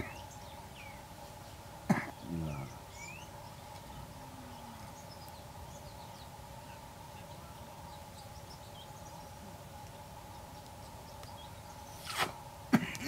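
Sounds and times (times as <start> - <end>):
faint bird chirps: 0.0 - 12.3
steady low hum: 0.0 - 13.0.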